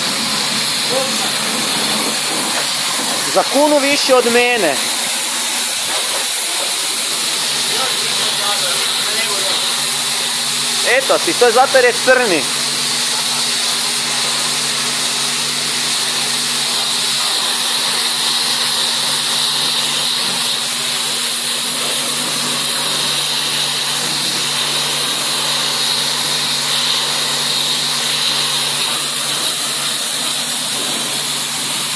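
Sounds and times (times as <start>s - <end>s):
pressure washer spraying: 0.0s - 31.9s.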